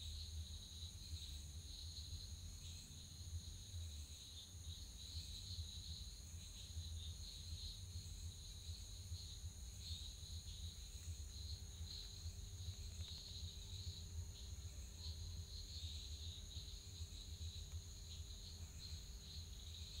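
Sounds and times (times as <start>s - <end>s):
crickets chirping: 0.0s - 20.0s
low steady hum: 0.0s - 20.0s.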